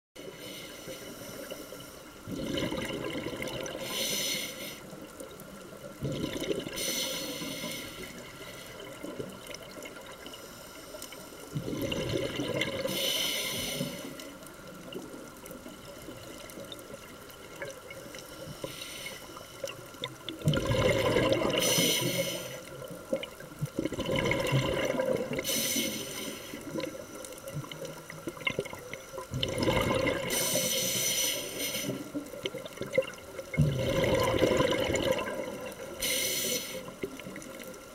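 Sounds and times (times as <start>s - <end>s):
regulator bubbles exhaling: 2.2s - 4.2s, 4.9s - 10.3s, 11.5s - 37.9s.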